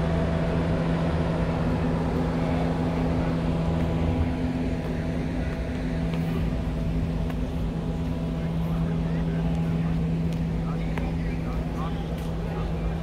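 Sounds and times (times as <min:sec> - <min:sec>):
ship machinery droning: 0:00.0 - 0:13.0.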